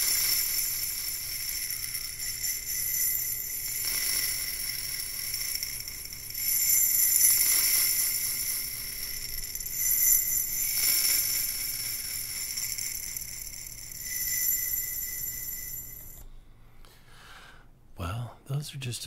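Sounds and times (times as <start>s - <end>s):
high jingling ring: 0.0s - 16.3s.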